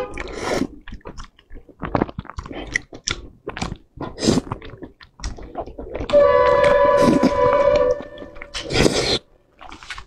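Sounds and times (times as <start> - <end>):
person chewing and slurping noodles: 0.0 - 10.0.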